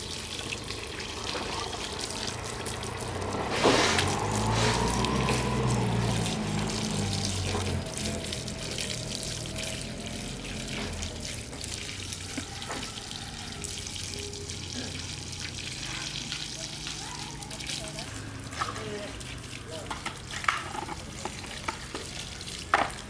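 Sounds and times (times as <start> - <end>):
water running: 0.0 - 23.0.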